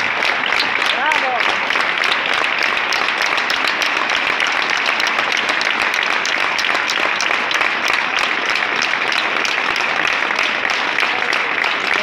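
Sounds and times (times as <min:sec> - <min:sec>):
large crowd applauding: 0:00.0 - 0:12.0.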